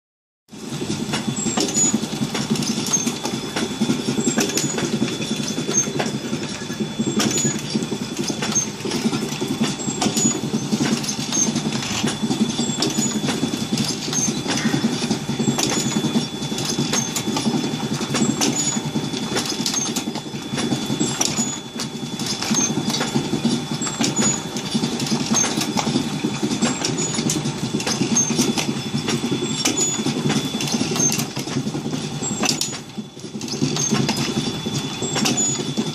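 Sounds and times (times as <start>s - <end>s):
machine rattling and rumbling: 0.5s - 35.9s.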